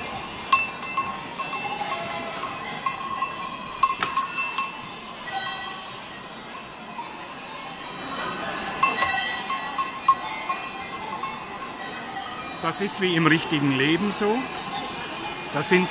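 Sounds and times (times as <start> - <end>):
goat bells clanking: 0.0 - 15.9.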